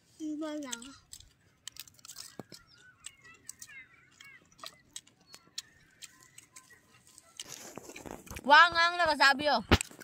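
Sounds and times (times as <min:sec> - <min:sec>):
cabbage crunching and chewing: 0:00.0 - 0:08.8, 0:09.7 - 0:10.0.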